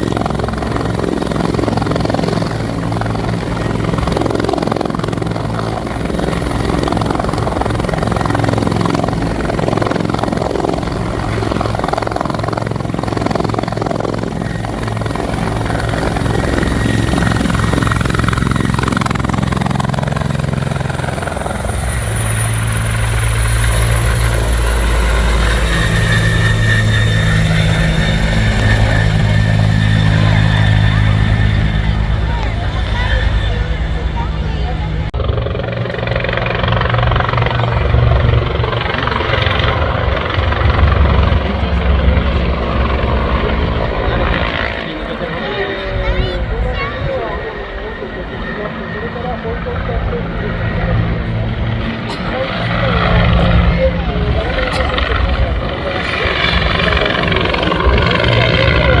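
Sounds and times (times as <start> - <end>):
helicopter rotor chop and turbine: 0.0 - 59.0.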